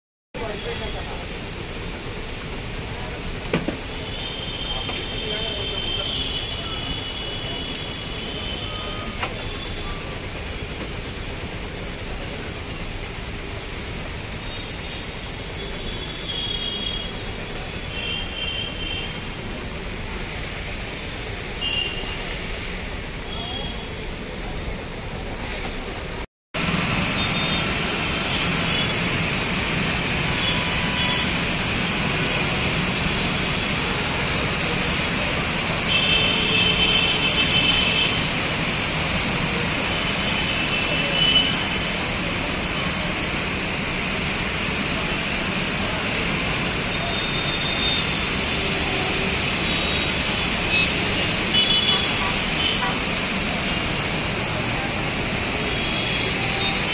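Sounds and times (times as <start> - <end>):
traffic engine and road noise: 0.3 - 56.9.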